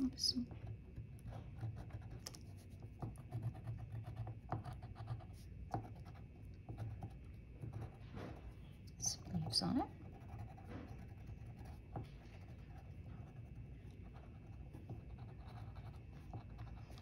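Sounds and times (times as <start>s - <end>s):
low steady hum: 0.0s - 17.0s
pencil scratching on paper: 0.4s - 17.0s.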